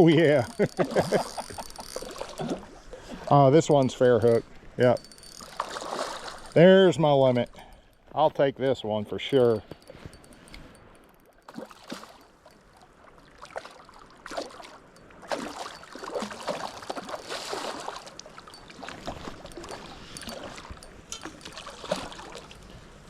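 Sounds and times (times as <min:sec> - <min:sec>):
creek water splashing: 0:00.1 - 0:07.9, 0:11.5 - 0:22.7.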